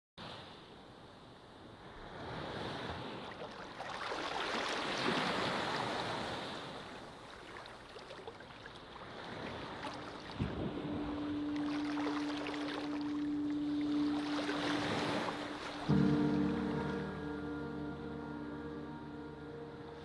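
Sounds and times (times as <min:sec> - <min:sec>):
sea surf waves: 0:01.6 - 0:20.0.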